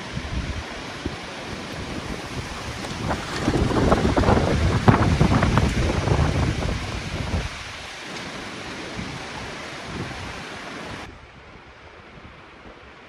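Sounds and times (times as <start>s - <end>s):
wind buffeting on microphone: 0.0s - 13.0s
wind rushing through trees: 0.0s - 13.0s.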